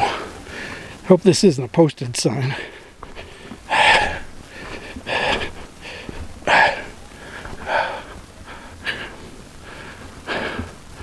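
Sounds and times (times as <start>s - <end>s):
person breathing heavily: 0.0s - 1.1s, 2.4s - 11.0s.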